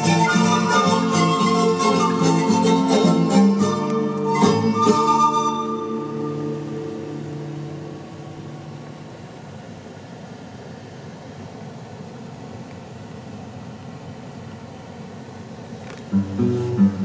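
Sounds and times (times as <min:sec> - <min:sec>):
hiss-like background rush: 0:00.0 - 0:17.0.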